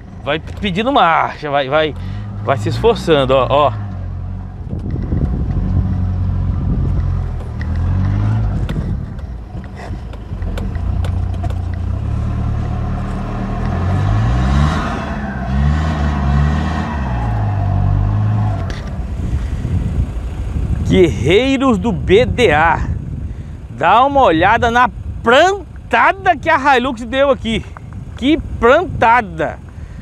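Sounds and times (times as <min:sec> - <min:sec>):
truck engine revving: 0:00.0 - 0:27.6.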